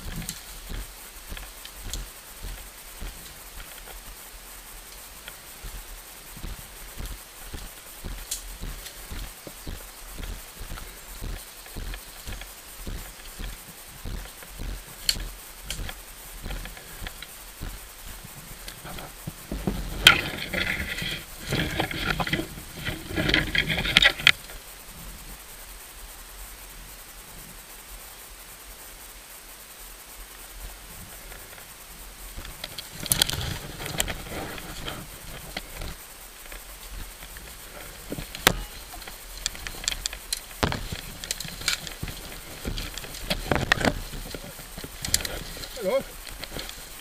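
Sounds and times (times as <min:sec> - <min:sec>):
leaves and twigs rustling: 0:00.0 - 0:47.0.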